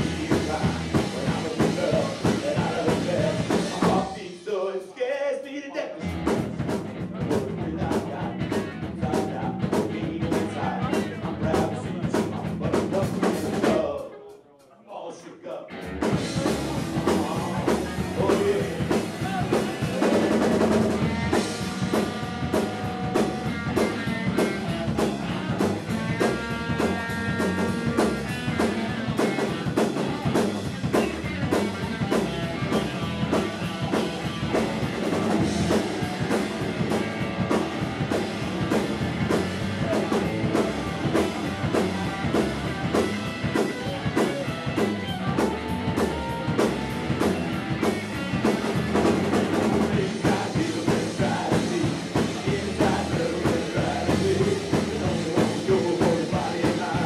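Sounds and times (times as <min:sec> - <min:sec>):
driving drum beat: 0:00.0 - 0:04.5, 0:06.0 - 0:14.0, 0:15.7 - 0:57.0
punk rock band playing: 0:00.0 - 0:04.6, 0:05.9 - 0:14.4, 0:15.7 - 0:57.0.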